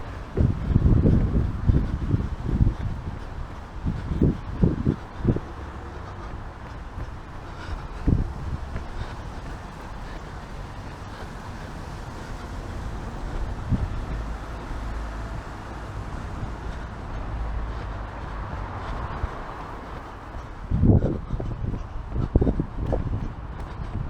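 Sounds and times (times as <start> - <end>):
traffic rumble: 0.0 - 24.0
wind noise on microphone: 0.0 - 24.0.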